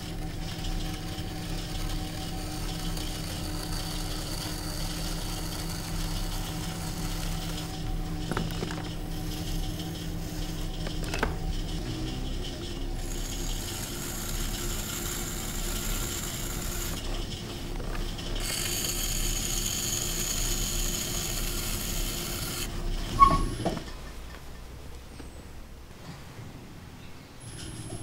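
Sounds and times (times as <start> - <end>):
potter's wheel humming: 0.0 - 25.8.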